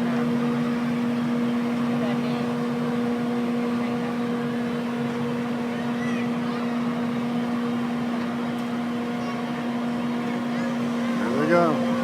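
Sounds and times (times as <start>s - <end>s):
carnival ride machinery hum: 0.0s - 12.0s
faint voices: 0.0s - 12.0s.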